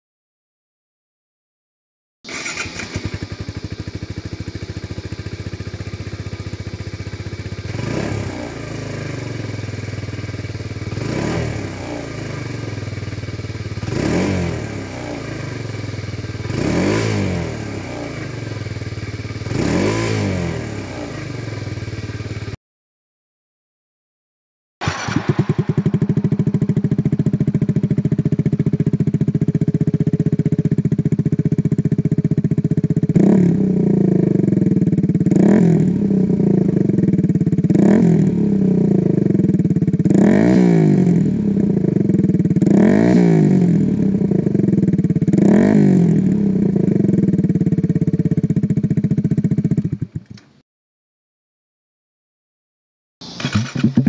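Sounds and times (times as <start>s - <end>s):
motorcycle engine idling and revving: 2.3s - 22.6s, 24.8s - 50.6s, 53.2s - 54.0s.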